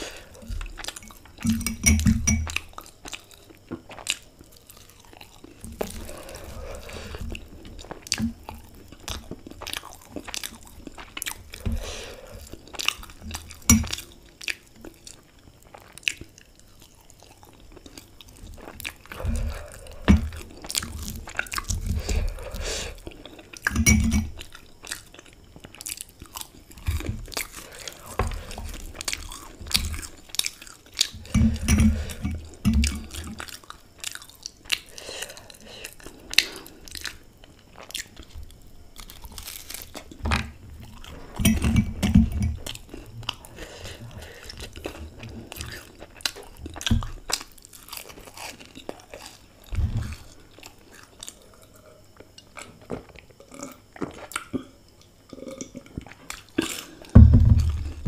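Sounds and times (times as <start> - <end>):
chewing crisp pastry: 0.0 - 41.8, 42.5 - 57.1.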